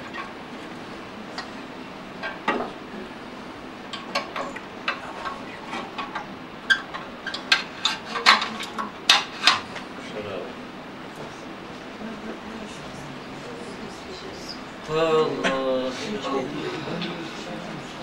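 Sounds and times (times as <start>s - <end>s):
steady room hiss: 0.0s - 18.0s.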